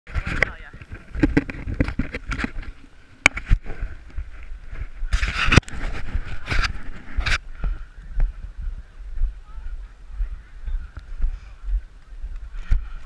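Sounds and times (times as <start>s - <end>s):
wind buffeting microphone: 0.1s - 13.0s.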